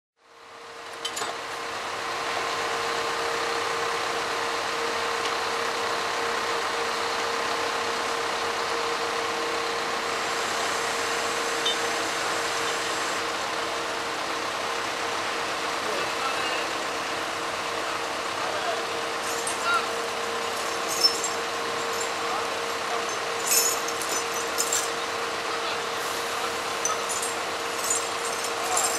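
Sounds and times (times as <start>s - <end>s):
loader crane whine: 0.2s - 28.9s
diesel truck engine running: 0.3s - 28.9s.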